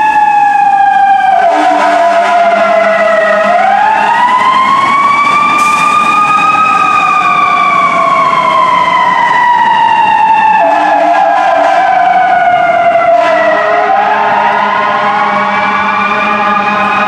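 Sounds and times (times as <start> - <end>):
fire truck siren wailing: 0.0 - 17.0.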